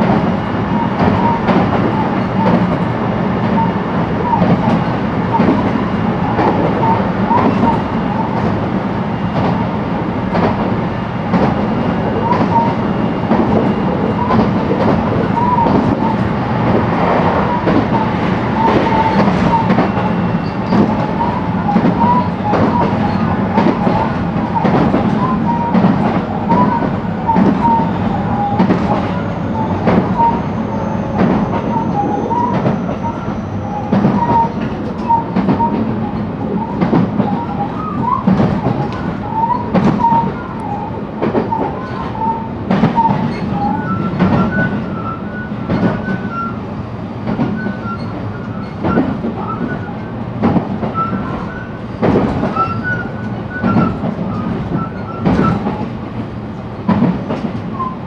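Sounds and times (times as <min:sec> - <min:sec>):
rail joint clicks: 0:00.0 - 0:58.0
train wheels rumbling on rail: 0:00.0 - 0:58.0.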